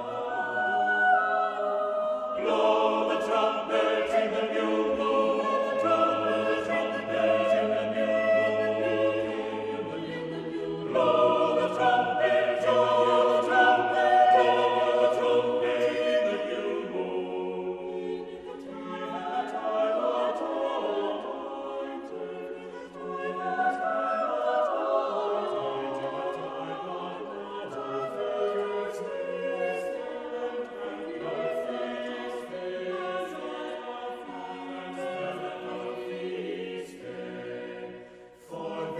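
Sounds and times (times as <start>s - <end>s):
choir singing sustained chords: 0.0s - 38.9s.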